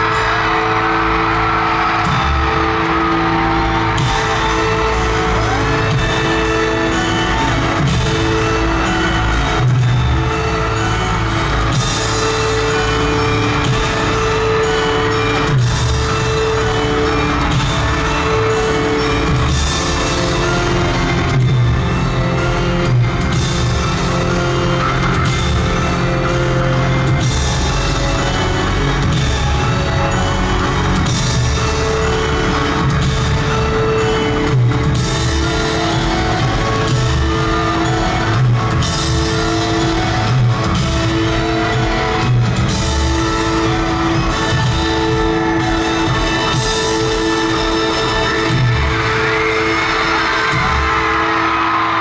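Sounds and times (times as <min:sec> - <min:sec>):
live pop music over sound system: 0:00.0 - 0:52.0.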